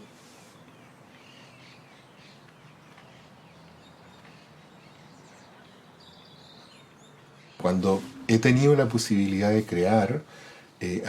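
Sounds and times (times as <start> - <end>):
faint background ambience: 0.0 - 11.0
small birds chirping: 0.0 - 11.0.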